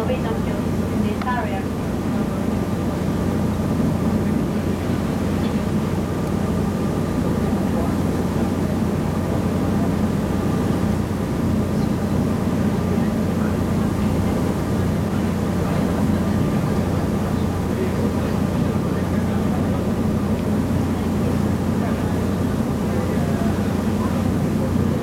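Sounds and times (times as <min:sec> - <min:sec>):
boat engine drone: 0:00.0 - 0:25.0.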